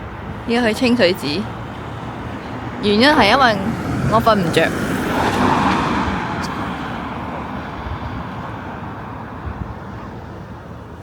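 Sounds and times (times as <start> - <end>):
road vehicle passing by: 0.0 - 11.0.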